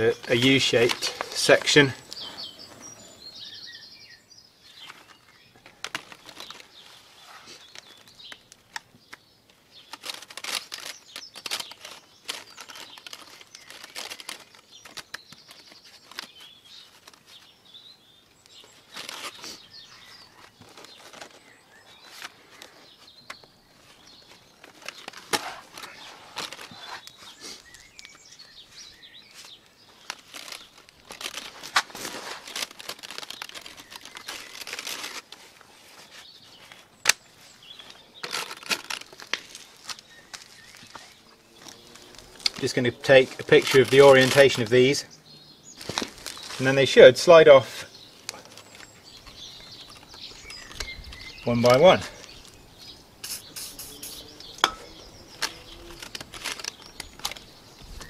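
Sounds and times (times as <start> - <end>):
plastic brushes rustling and clicking: 0.0 - 3.0, 4.7 - 17.6, 18.3 - 45.0, 45.7 - 52.6, 53.2 - 58.0.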